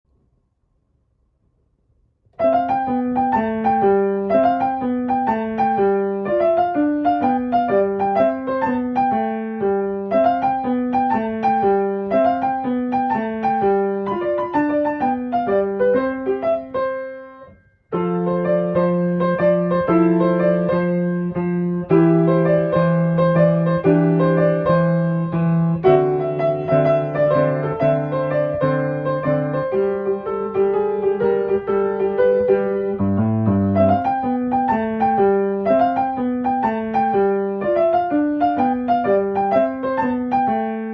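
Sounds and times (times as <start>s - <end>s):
instrumental melody: 2.4s - 40.9s.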